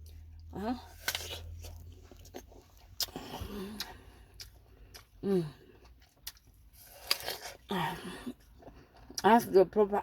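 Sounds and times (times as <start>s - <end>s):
person chewing crisp apple: 0.0s - 9.4s.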